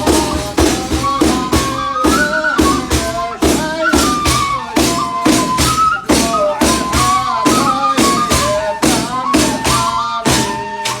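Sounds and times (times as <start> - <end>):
frame drum beat: 0.0 - 11.0
wavering hymn melody: 0.0 - 11.0.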